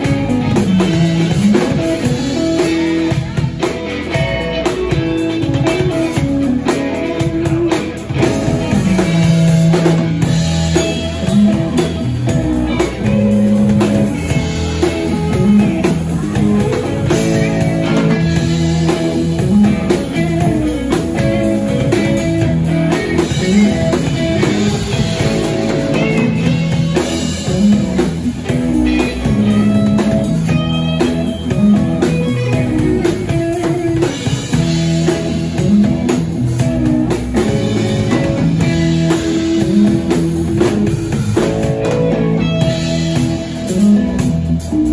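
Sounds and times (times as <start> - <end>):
drum kit: 0.0 - 44.9
electric guitars: 0.0 - 44.9
live blues rock band: 0.0 - 44.9.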